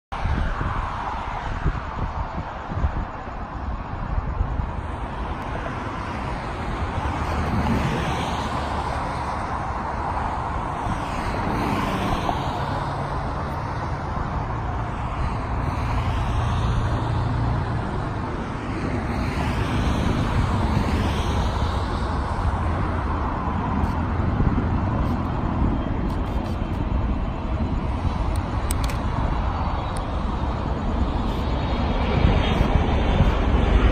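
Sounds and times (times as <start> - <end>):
freeway traffic noise: 0.1 - 33.9
vehicles passing close by: 0.1 - 33.9.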